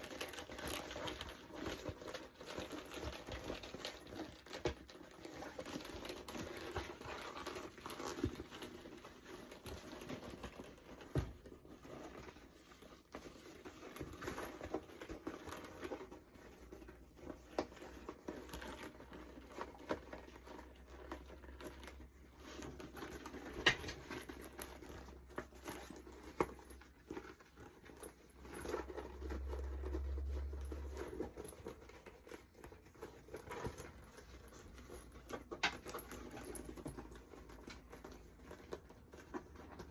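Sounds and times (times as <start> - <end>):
leather bag creaking and rustling: 0.0 - 39.9
small clicks and crinkles: 0.0 - 39.9.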